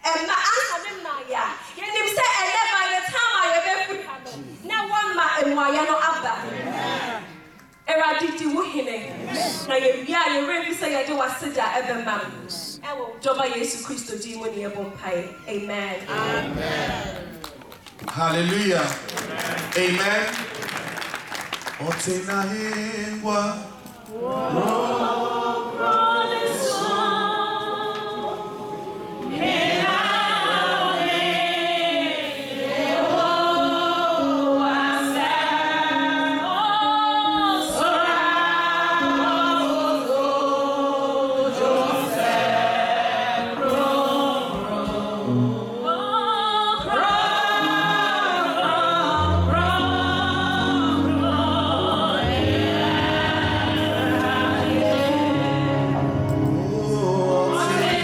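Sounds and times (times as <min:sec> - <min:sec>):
choir singing gospel: 0:02.1 - 0:12.9, 0:14.7 - 0:58.0.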